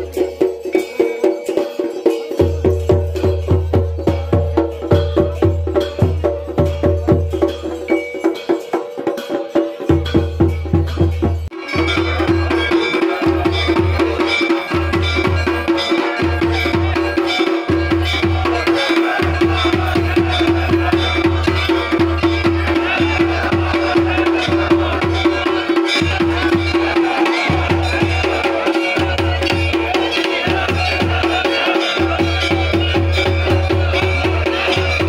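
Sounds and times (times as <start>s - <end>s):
fast traditional drumming: 0.0s - 35.0s.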